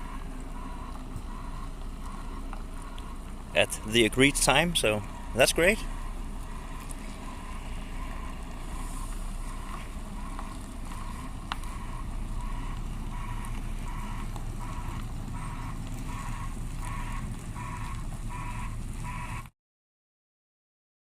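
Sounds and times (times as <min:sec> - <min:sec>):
two-tone warning beeps: 0:00.0 - 0:17.2
truck diesel engine running: 0:00.0 - 0:19.5.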